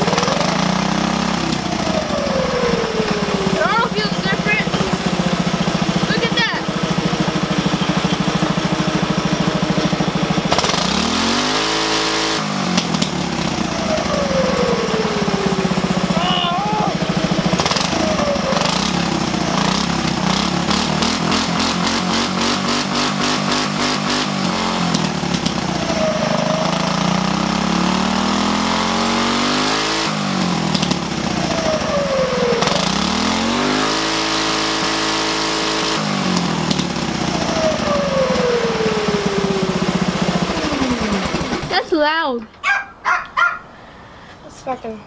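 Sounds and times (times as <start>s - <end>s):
go-kart engine revving: 0.0s - 42.8s.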